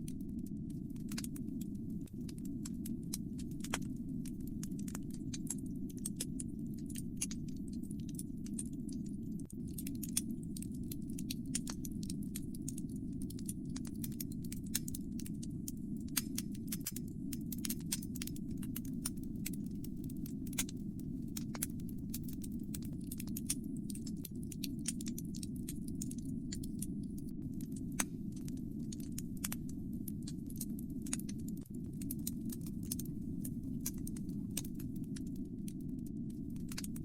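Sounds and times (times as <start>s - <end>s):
fire crackling and popping: 0.0s - 37.0s
flames rumbling: 0.1s - 37.0s.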